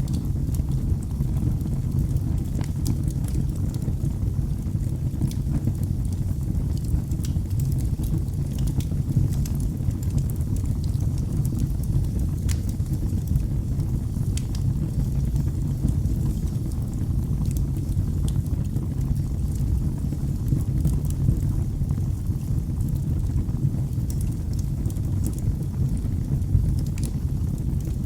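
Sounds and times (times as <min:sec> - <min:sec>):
fire crackling and popping: 0:00.0 - 0:28.0
fire rumbling: 0:00.0 - 0:28.0.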